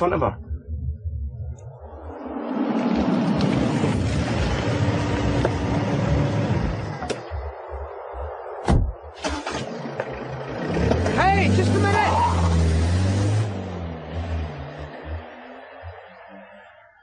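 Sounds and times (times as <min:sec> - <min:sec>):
car driving up and stopping: 0:00.7 - 0:07.4, 0:09.2 - 0:16.6.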